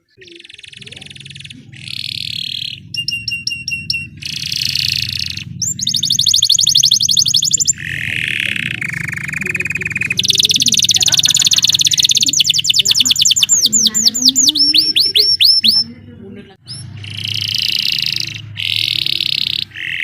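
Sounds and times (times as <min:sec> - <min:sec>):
canary singing trills: 0:00.0 - 0:20.0
steady low hum: 0:00.0 - 0:20.0.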